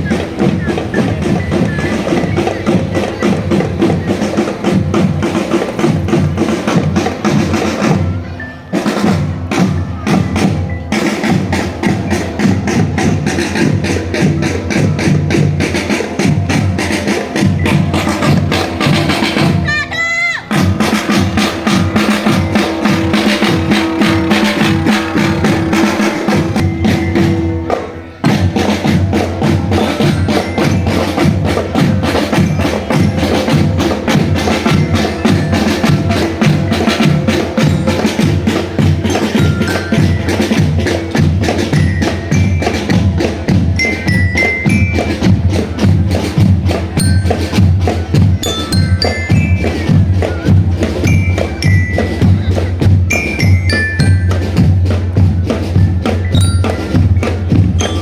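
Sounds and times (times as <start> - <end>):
glockenspiel melody: 0.0 - 6.5, 7.2 - 19.5, 20.5 - 58.0
marching drum band: 0.0 - 58.0.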